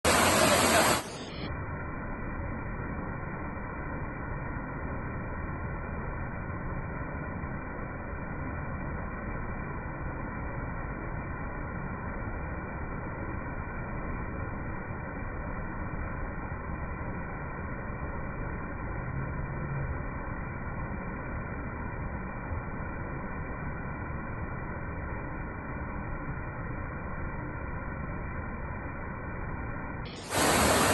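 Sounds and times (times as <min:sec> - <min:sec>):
muffled waterfall rumble: 0:00.0 - 0:30.9.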